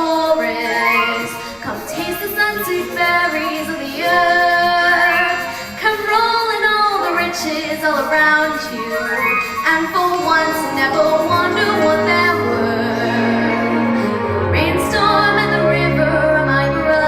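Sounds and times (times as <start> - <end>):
girl singing: 0.0 - 17.0
instrumental accompaniment: 0.0 - 17.0.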